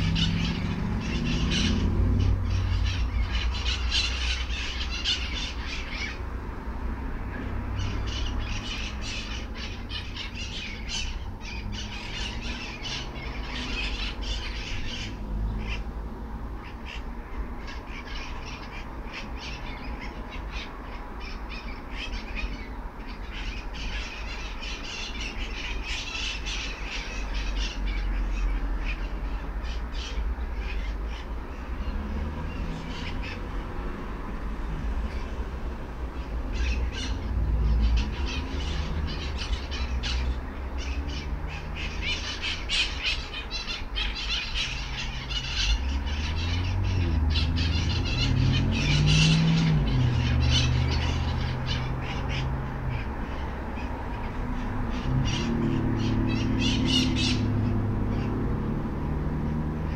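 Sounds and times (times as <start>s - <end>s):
parrots squawking: 0.0s - 6.4s, 7.6s - 15.9s, 16.6s - 34.0s, 36.0s - 58.5s.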